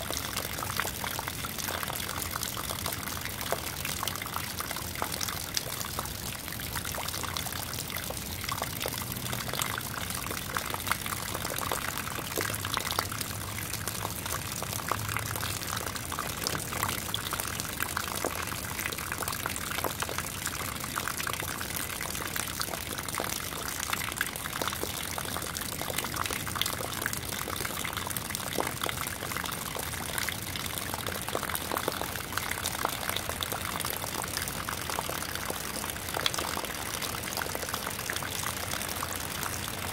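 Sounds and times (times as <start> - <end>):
rainwater splashing into puddle: 0.0 - 39.9.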